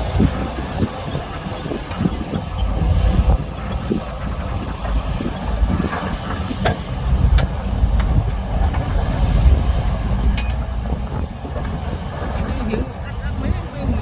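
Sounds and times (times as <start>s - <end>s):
diesel machinery rumbling: 0.0s - 14.0s.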